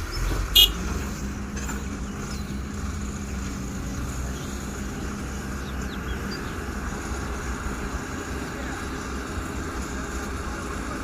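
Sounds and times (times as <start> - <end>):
diesel machinery engine rumbling: 0.0 - 11.0.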